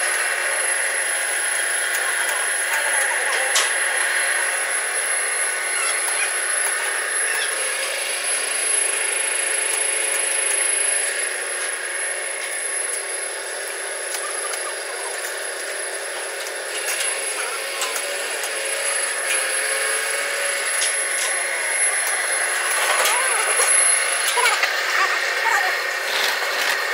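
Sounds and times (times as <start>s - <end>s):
rolling machine running with whine: 0.0s - 26.9s.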